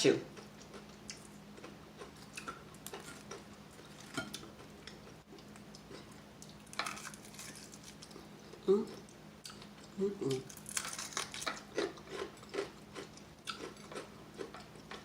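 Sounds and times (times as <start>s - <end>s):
crunching fried chicken: 0.4s - 9.7s, 10.3s - 15.0s.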